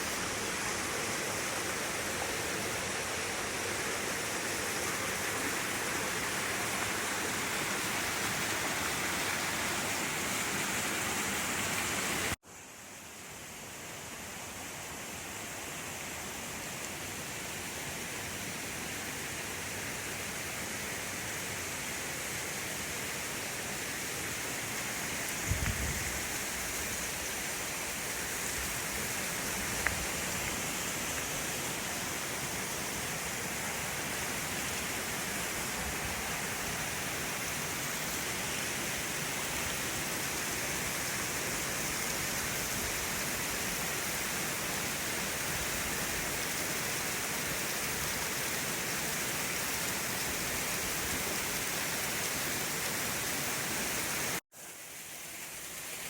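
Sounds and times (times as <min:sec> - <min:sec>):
waterfall rushing: 0:00.0 - 0:12.4, 0:16.6 - 0:54.4.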